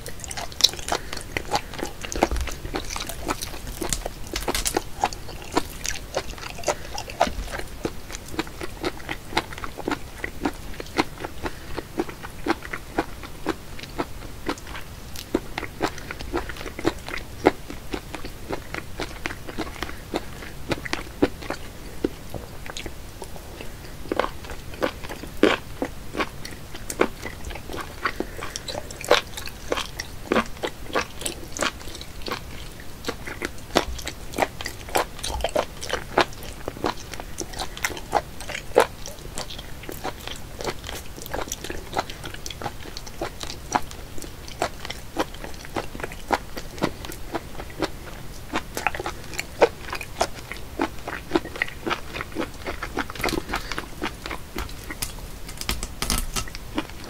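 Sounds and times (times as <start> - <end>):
person chewing wetly: 0.0 - 57.0.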